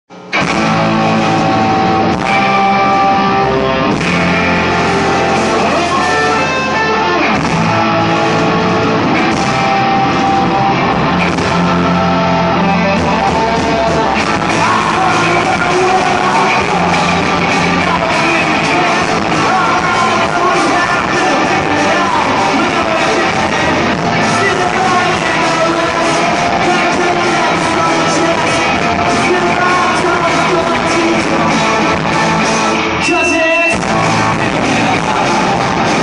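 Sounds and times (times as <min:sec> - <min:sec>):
distorted electric guitars: 0:00.1 - 0:36.0
rock band playing live: 0:00.1 - 0:36.0.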